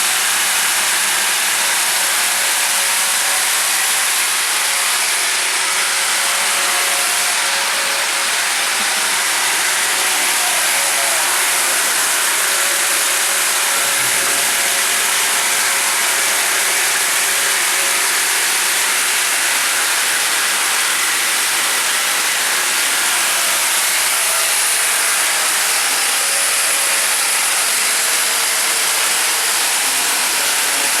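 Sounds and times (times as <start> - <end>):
band sawmill hissing: 0.0 - 31.0.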